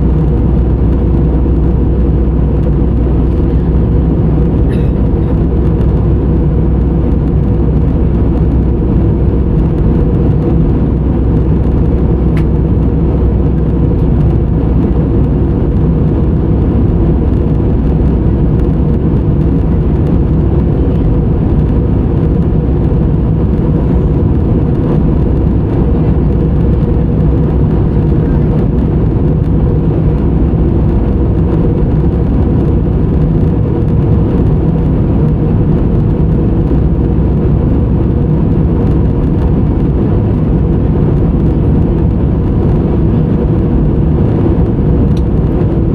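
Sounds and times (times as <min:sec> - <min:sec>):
airliner cabin drone: 0:00.0 - 0:45.9
low hum of steady tones: 0:00.0 - 0:45.9.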